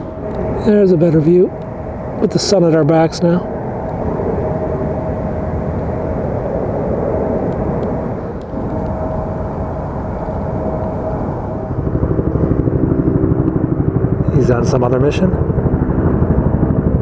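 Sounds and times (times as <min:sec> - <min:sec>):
helicopter rotor beat: 0:00.0 - 0:17.0
jet aircraft rumble: 0:00.0 - 0:17.0.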